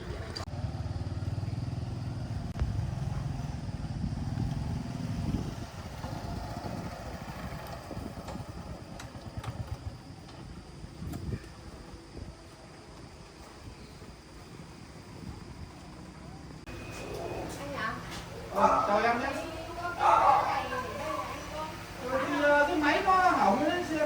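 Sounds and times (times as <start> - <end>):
small engine running: 0.0 - 10.7, 14.5 - 24.0.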